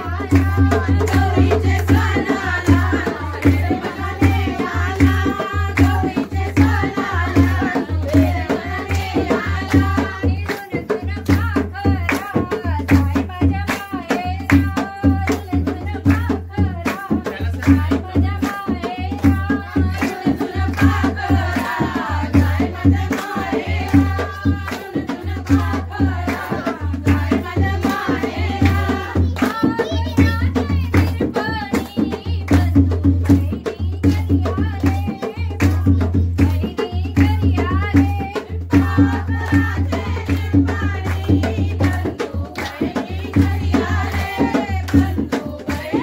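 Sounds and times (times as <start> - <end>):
women singing in chorus: 0.0 - 46.0.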